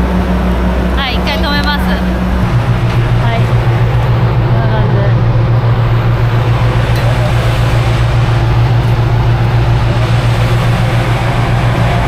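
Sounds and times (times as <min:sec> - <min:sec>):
diesel engines idling: 0:00.0 - 0:12.0.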